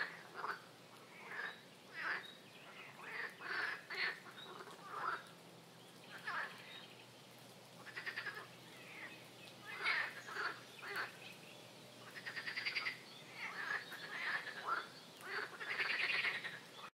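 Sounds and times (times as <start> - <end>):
frogs calling: 0.0 - 7.0, 7.8 - 11.4, 12.0 - 16.9
birds calling: 0.0 - 16.9.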